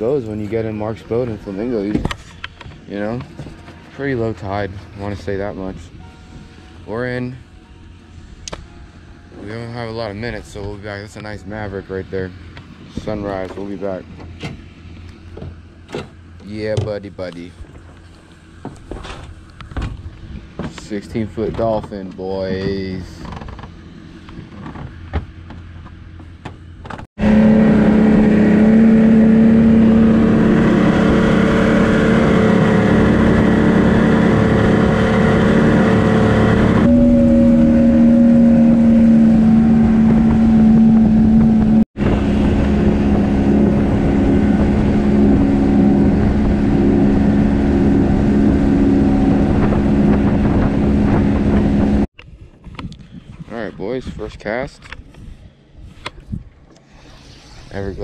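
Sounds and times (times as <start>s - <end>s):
outboard motor drone: 0.0s - 53.4s, 54.2s - 58.0s.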